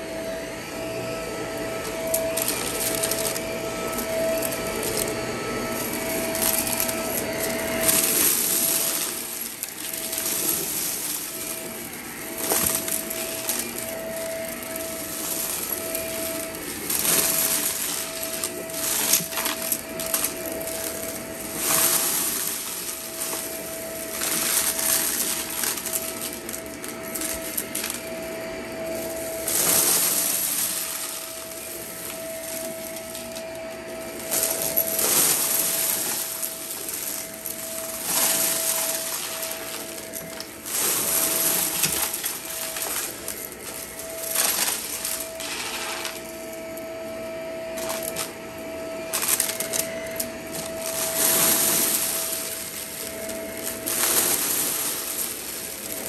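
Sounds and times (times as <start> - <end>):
upright vacuum cleaner whine: 0.0 - 56.0
vacuum sucking up debris: 0.0 - 56.0.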